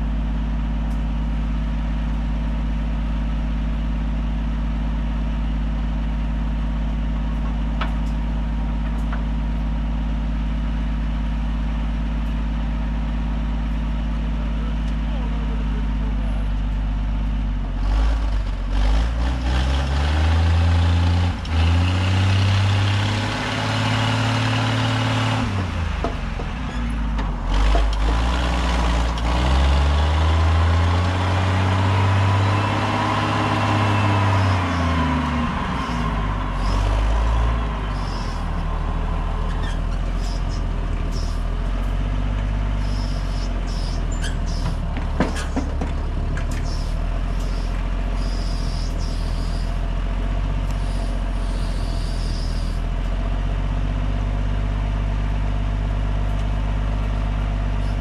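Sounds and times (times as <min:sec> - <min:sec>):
engine revving and idling: 0:00.0 - 0:58.0.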